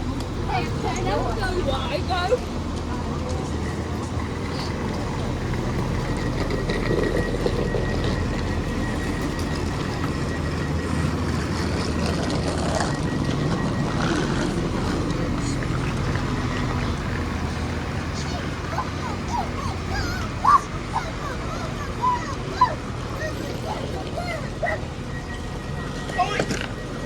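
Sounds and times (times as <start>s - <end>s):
faint high whine: 0.0s - 27.0s
train equipment low hum: 0.0s - 27.0s.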